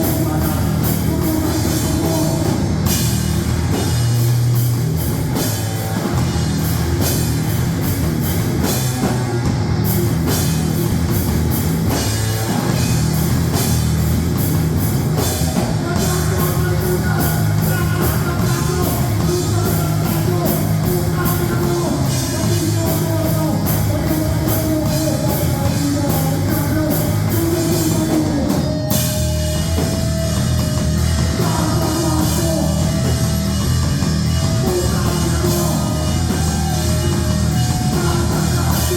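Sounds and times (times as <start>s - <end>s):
heavy rock music: 0.0s - 38.9s.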